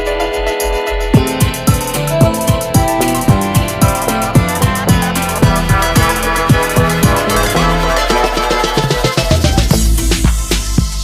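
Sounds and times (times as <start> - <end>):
electronic music with beat and bass: 0.0 - 11.0.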